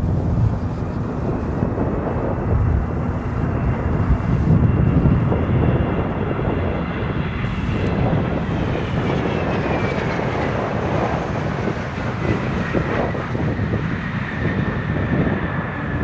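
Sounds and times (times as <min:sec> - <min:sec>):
jet engines rumbling and whining: 0:00.0 - 0:16.0
wind buffeting microphone: 0:00.0 - 0:16.0.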